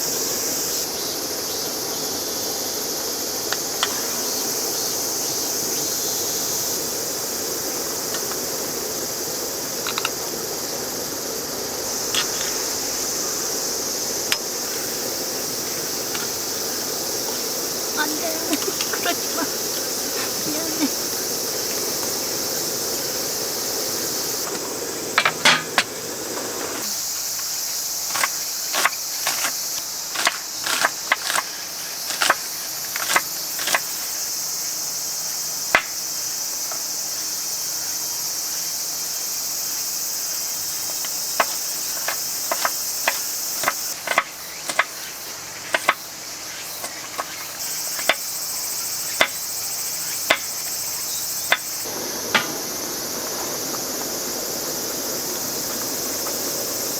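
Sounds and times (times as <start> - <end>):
crickets chirring: 0.0 - 56.9.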